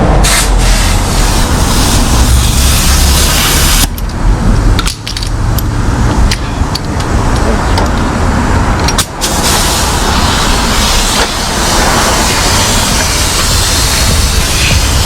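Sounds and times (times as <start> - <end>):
passing traffic: 0.0 - 15.0
wind on microphone: 0.0 - 15.0.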